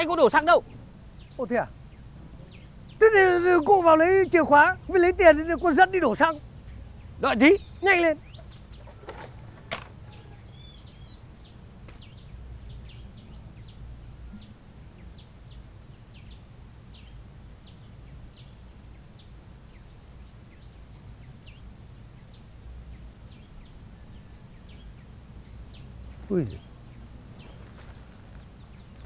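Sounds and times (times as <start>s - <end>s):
low outdoor ambience rumble: 0.0s - 29.0s
small bird chirping: 0.0s - 29.0s.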